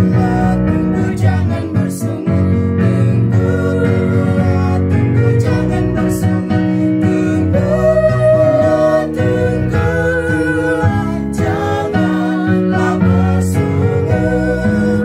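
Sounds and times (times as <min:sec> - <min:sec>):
hymn sung with vibrato: 0:00.0 - 0:15.0
keyboard accompaniment: 0:00.0 - 0:15.0.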